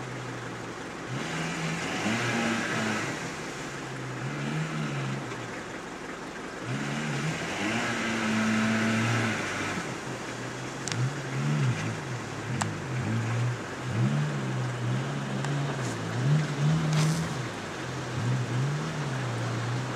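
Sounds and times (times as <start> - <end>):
off-road vehicle engine revving: 0.0 - 19.9
wheels churning through mud: 0.0 - 19.9.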